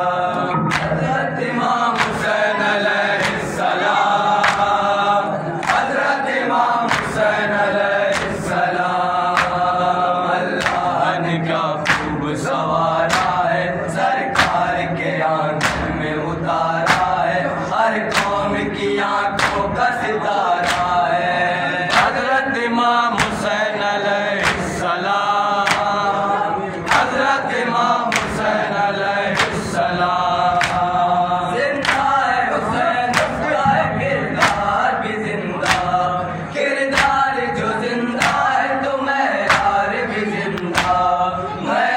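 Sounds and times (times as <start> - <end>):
men chanting in unison: 0.0 - 41.9.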